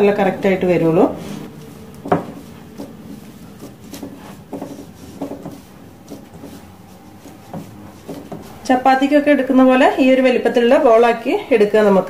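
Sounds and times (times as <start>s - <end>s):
hands squishing dough: 0.0s - 12.0s.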